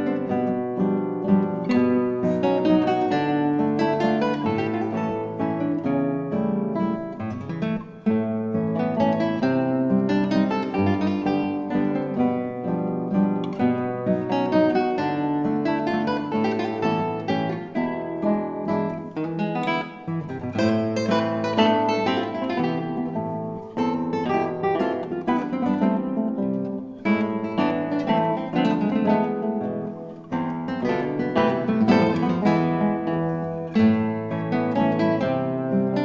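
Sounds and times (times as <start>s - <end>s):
classical guitars playing: 0.0s - 36.0s.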